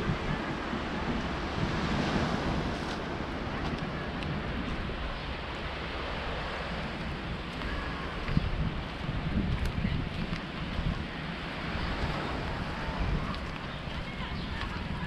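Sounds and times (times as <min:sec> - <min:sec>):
small waves on beach: 0:00.0 - 0:15.0
wind on microphone: 0:00.0 - 0:15.0.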